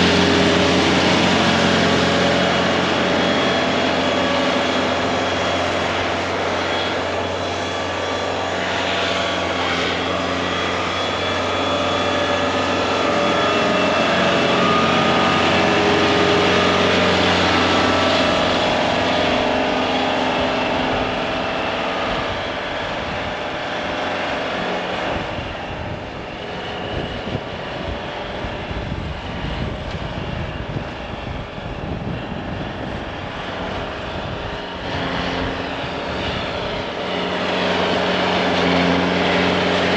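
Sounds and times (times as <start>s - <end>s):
snow-clearing machine engine: 0.0s - 39.9s.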